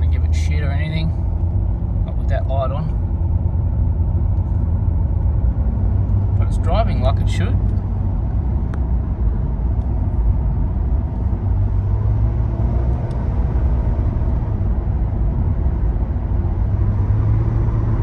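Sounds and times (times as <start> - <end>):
car engine cruising: 0.0 - 18.0.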